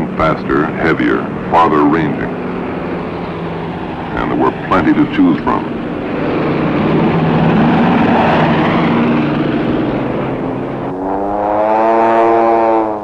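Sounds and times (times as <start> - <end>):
passing engine hum: 0.0 - 13.0
propeller aircraft engines droning: 0.0 - 13.0.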